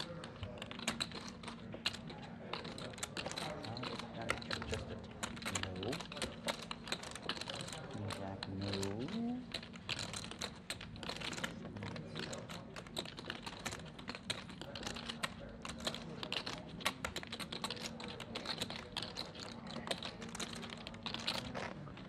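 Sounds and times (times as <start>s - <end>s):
poker chips clicking: 0.0s - 22.0s.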